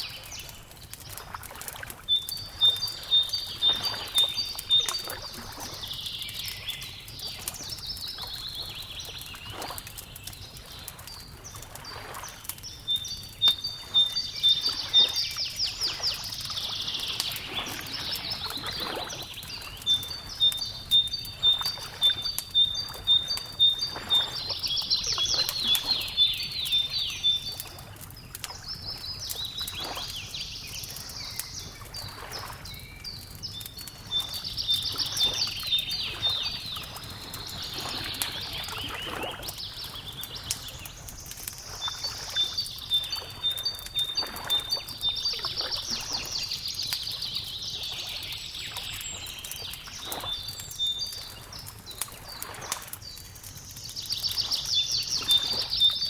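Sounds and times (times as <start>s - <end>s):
songbirds singing: 0.0s - 56.0s
wood fire crackling and popping: 0.0s - 56.0s.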